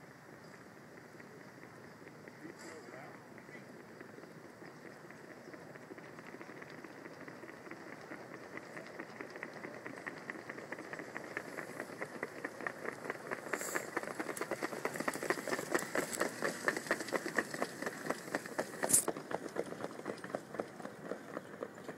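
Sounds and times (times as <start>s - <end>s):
hoofbeats: 0.4s - 21.9s.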